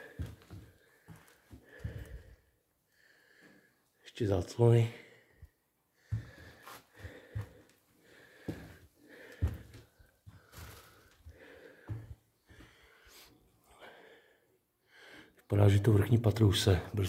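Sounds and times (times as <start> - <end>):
person breathing: 0.0 - 4.0, 4.9 - 15.5.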